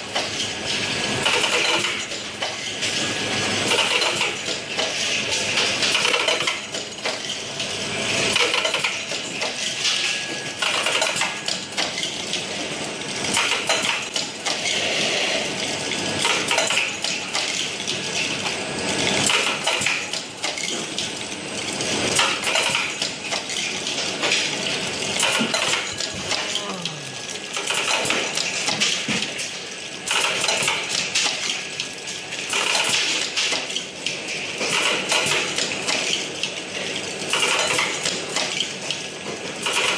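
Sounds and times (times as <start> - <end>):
capsules rattling in machine: 0.0 - 39.9.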